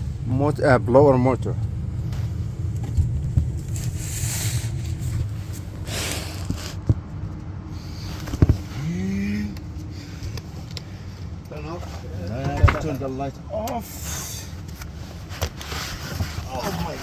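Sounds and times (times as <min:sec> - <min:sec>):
furnace humming: 0:00.0 - 0:17.0.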